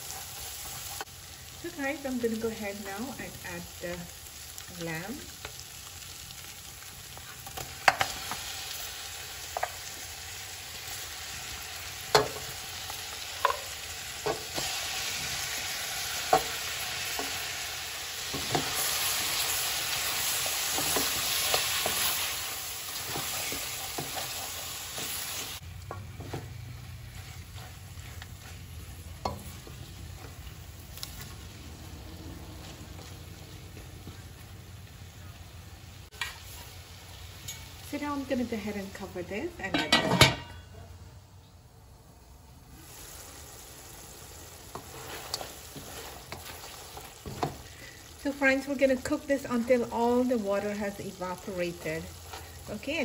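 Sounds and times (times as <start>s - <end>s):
meat sizzling in oil: 0.0s - 35.2s, 42.7s - 53.0s.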